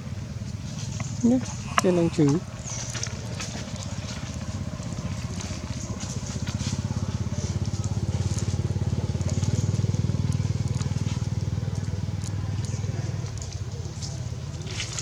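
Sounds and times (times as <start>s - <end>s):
small engine puttering: 0.0s - 15.0s.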